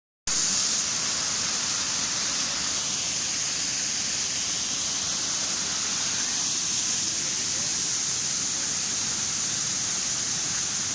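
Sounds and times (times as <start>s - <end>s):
waterfall over rocks: 0.3s - 10.9s.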